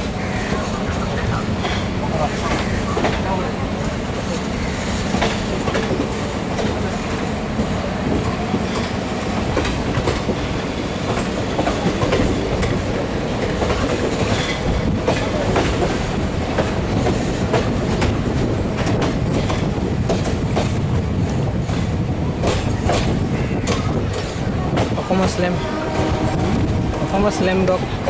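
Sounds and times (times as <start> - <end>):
train wheels clattering over joints: 0.0 - 28.0.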